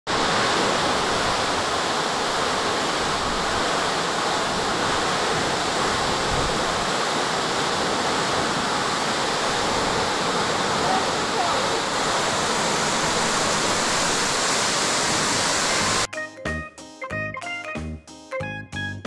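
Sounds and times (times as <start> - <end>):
waterfall rushing: 0.1 - 16.1.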